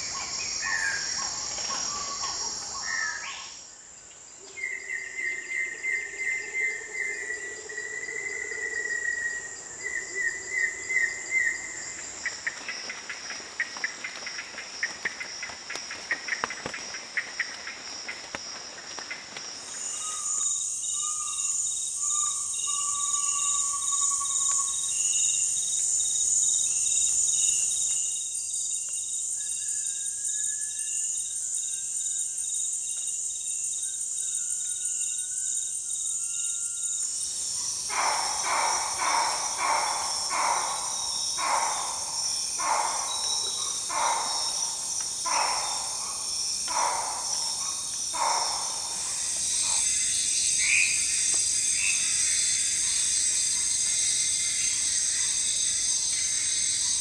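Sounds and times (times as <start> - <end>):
high-pitched insect trill: 0.0 - 57.0
insect chorus: 0.0 - 57.0.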